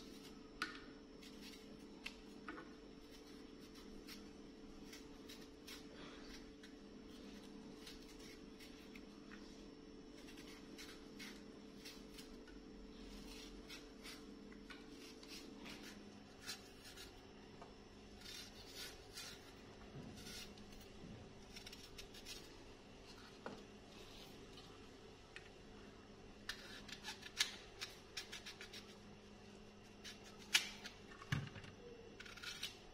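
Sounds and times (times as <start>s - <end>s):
knife peeling and slicing apples: 0.0s - 24.9s, 26.4s - 31.1s, 31.8s - 32.9s
faint steady hum: 0.0s - 32.9s.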